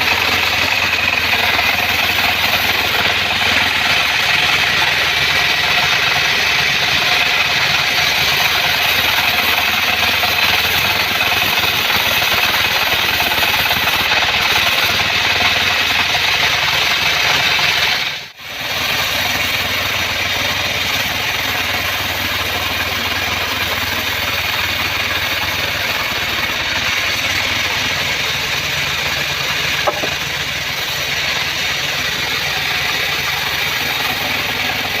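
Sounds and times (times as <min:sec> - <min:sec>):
band sawmill running: 0:00.0 - 0:35.0.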